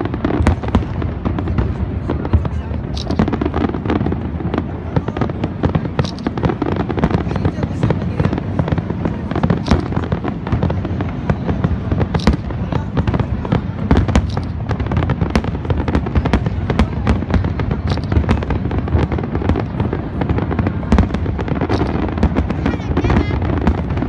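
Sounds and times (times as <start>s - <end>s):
fireworks rumbling: 0.0s - 24.0s
sharp firework cracks: 0.0s - 24.0s.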